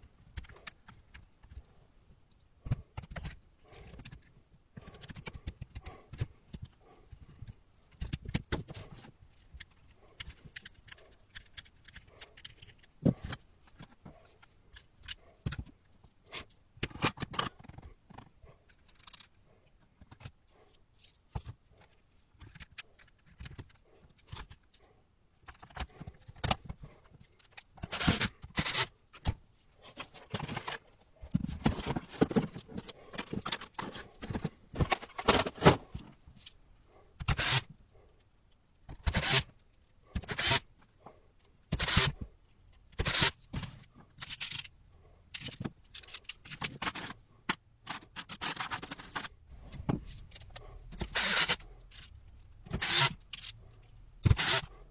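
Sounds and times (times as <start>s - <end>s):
hands handling metal and plastic parts: 0.0s - 54.9s.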